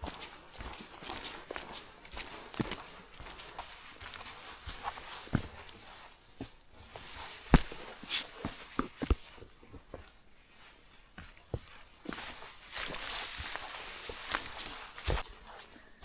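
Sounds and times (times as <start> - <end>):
footsteps on forest track: 0.0 - 16.0.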